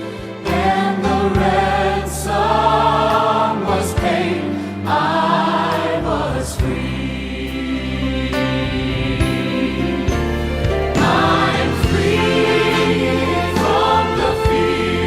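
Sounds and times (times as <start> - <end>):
choir singing: 0.0 - 15.0
instrumental accompaniment: 0.0 - 15.0.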